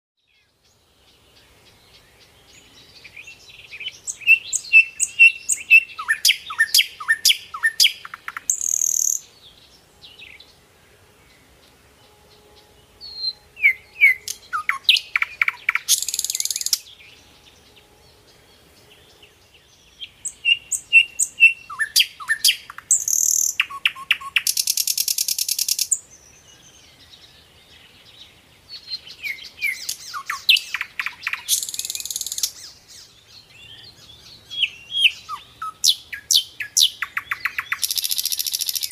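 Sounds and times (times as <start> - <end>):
birds chirping: 0.4 - 38.9.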